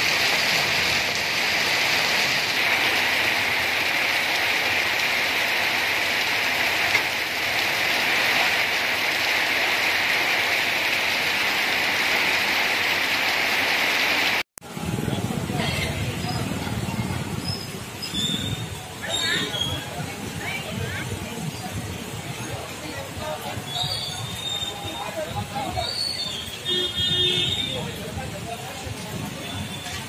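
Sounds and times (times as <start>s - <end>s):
heavy rain on pavement: 0.0s - 30.0s.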